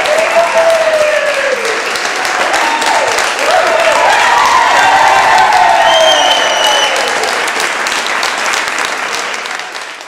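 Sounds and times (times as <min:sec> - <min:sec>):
group clapping and cheering: 0:00.0 - 0:10.0.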